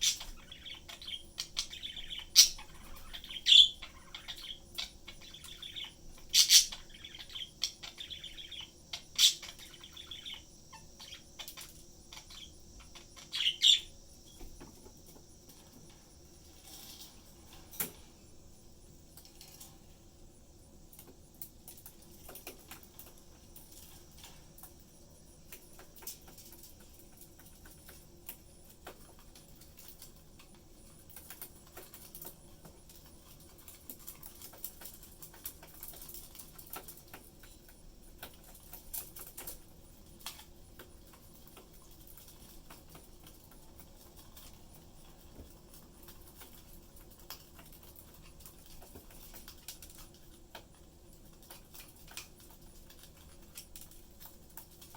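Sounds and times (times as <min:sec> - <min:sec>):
budgies clicking and tapping: 0:00.0 - 0:18.1, 0:20.8 - 0:54.9.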